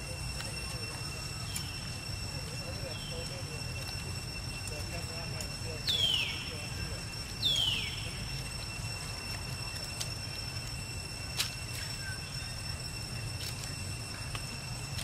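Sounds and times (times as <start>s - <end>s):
steady high whine: 0.0s - 15.0s.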